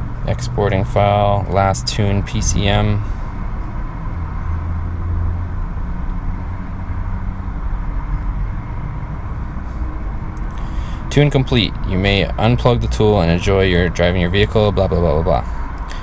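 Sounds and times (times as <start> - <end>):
vehicle cab hum and rumble: 0.0 - 16.0.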